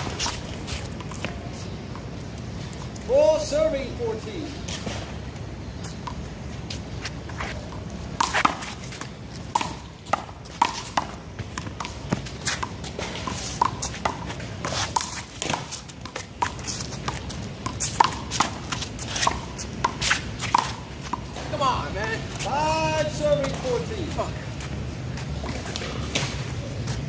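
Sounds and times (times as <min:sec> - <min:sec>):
handball slapping wall and pavement: 0:04.7 - 0:27.0.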